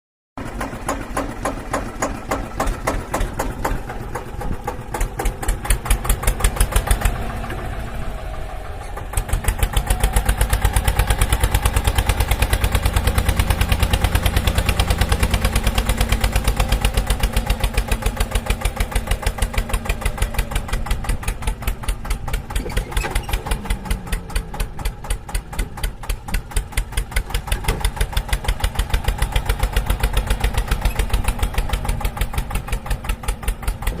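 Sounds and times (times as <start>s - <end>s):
mini tractor engine running: 0.4s - 34.0s.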